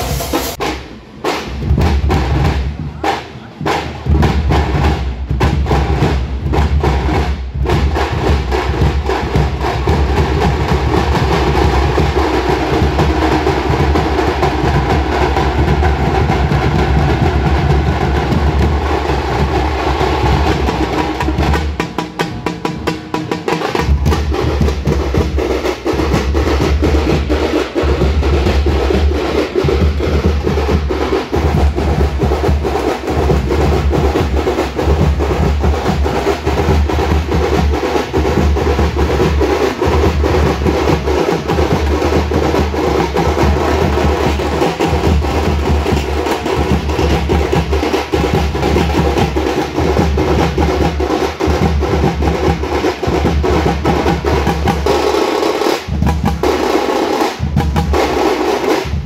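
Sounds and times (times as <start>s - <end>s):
frame drums beaten fast: 0.0s - 59.0s.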